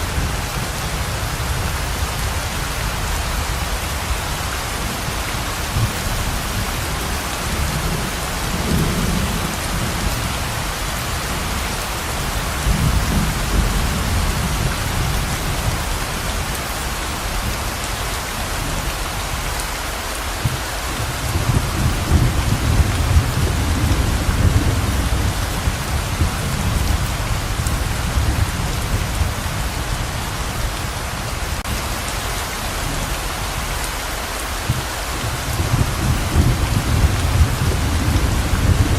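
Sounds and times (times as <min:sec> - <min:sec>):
low rolling thunder: 0:00.0 - 0:17.8, 0:20.4 - 0:32.0, 0:34.6 - 0:38.9
heavy rain hissing: 0:00.0 - 0:38.9.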